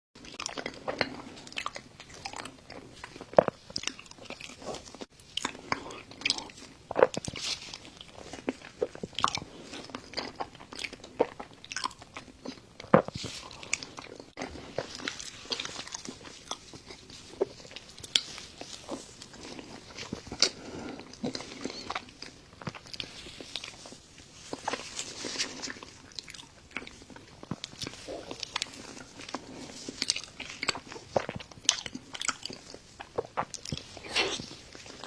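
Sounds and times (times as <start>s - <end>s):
person chewing and mouth sounds: 0.2s - 35.0s.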